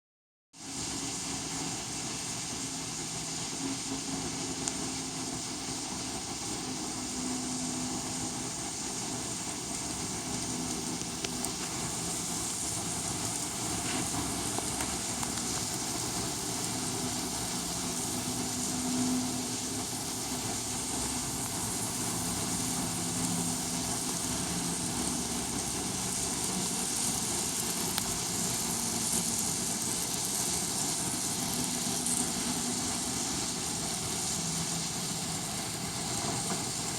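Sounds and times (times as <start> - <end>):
model train running on track: 0.7 - 36.9.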